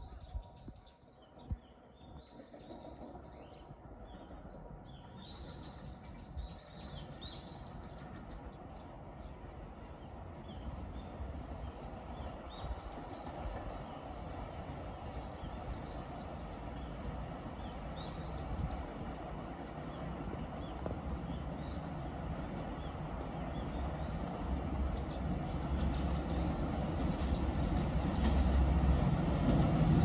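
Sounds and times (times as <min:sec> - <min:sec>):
distant freight train rumble: 0:00.0 - 0:30.0.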